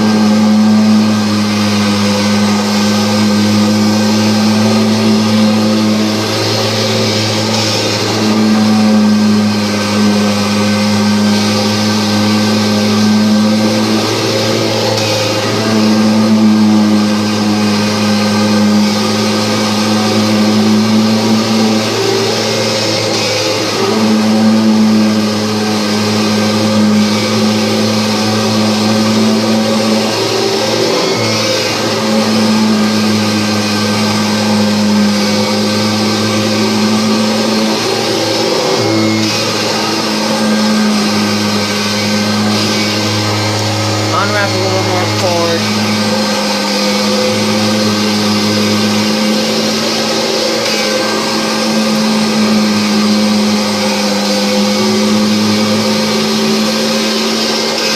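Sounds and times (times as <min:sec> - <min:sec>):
vacuum cleaner motor hum: 0:00.0 - 0:57.9.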